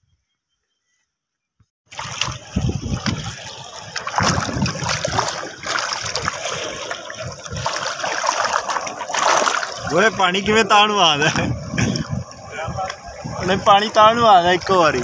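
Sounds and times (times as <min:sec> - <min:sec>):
water splashing against bank: 0:01.9 - 0:15.0.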